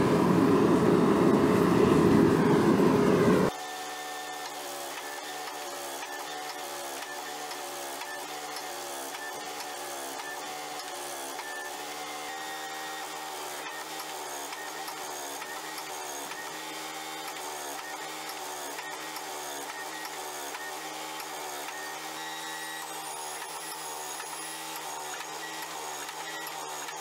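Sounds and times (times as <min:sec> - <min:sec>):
hydraulic press pump motor drone: 0:00.0 - 0:27.0.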